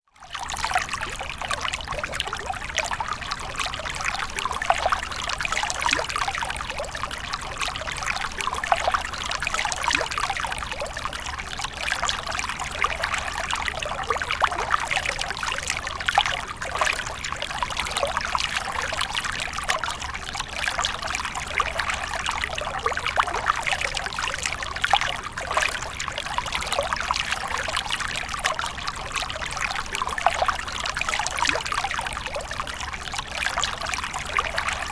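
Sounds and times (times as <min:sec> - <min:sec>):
water splashing and trickling: 0:00.1 - 0:34.9.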